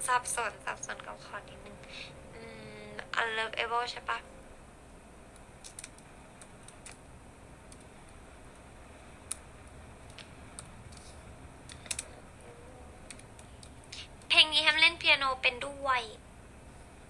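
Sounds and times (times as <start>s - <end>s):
quiet room hiss: 0.0s - 17.0s.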